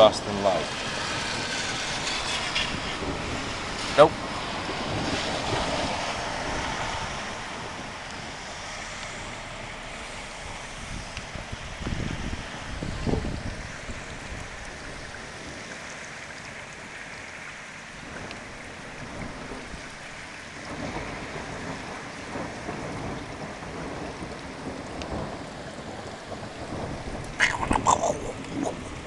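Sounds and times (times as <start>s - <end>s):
thunder rumbling: 0.0s - 15.8s, 18.0s - 29.0s
steady hiss of rain: 0.0s - 29.0s.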